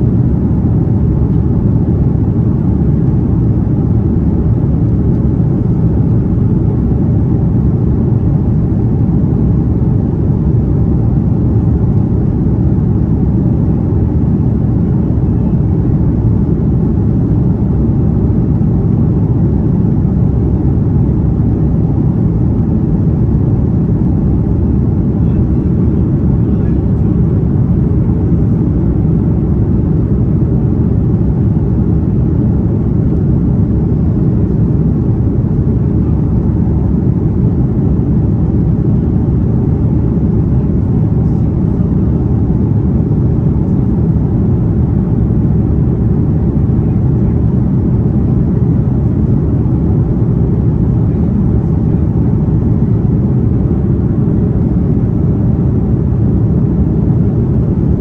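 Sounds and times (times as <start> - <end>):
aircraft engines rumbling: 0.0 - 58.0.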